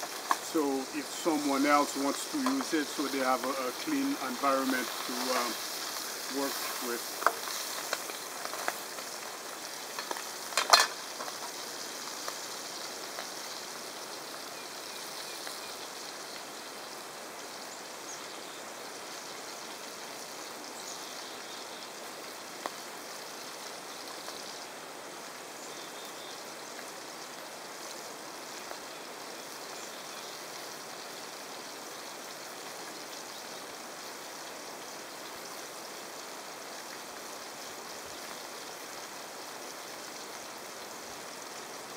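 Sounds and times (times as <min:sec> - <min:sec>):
fish sizzling in a pan: 0:00.0 - 0:41.9.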